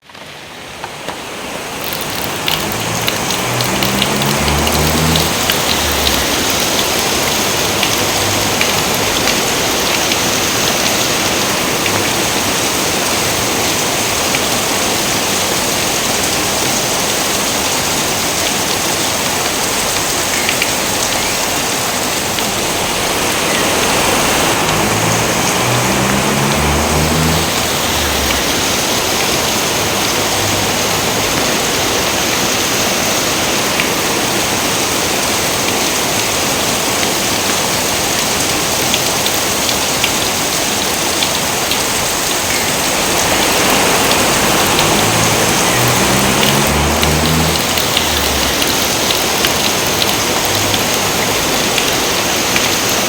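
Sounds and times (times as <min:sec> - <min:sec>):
steady rain: 0:00.0 - 0:53.0
raindrop ticks: 0:01.8 - 0:53.0.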